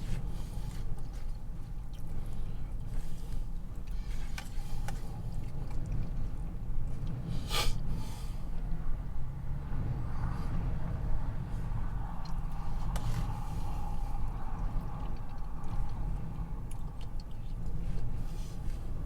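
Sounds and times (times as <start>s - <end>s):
strong wind buffeting truck: 0.0s - 19.0s.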